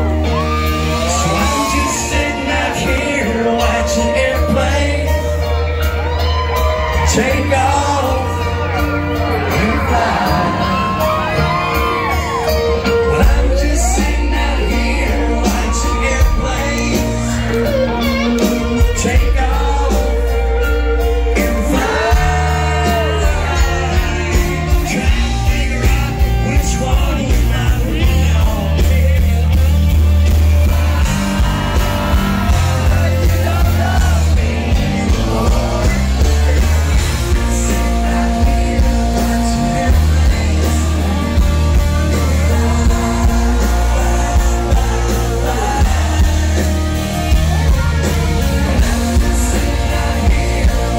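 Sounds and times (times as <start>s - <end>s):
heavy bass: 0.0s - 50.9s
live country band: 0.0s - 50.9s
man singing: 0.0s - 50.9s.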